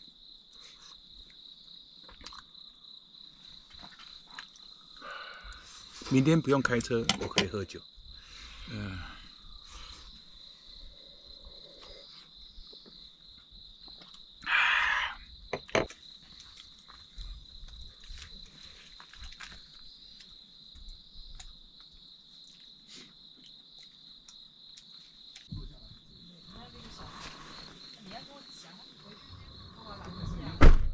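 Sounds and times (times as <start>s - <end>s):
crickets chirring: 0.0s - 30.9s.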